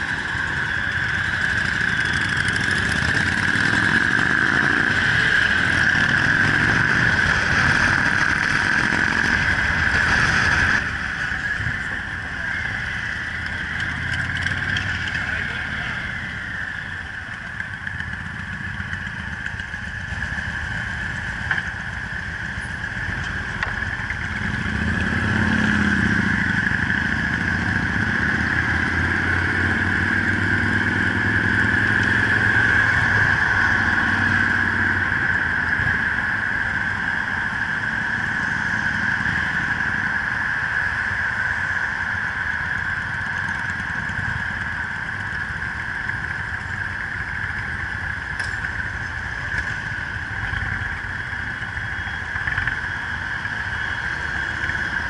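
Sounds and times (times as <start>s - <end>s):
high-pitched whine: 0.0s - 55.0s
motorcycle engine accelerating: 0.0s - 55.0s.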